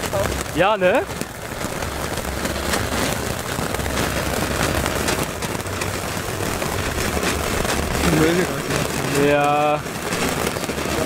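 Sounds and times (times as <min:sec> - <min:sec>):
firework fountain hissing and crackling: 0:00.0 - 0:11.0.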